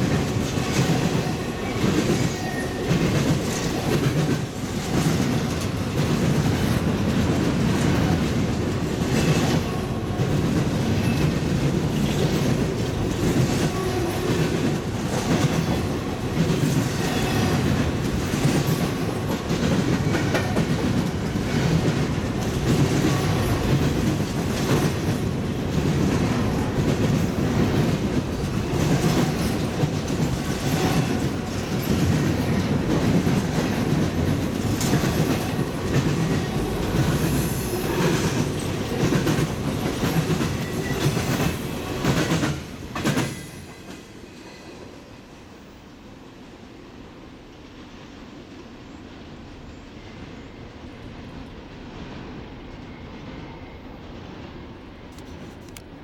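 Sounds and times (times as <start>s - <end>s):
rumble of steel wheels on rail: 0.0s - 45.9s.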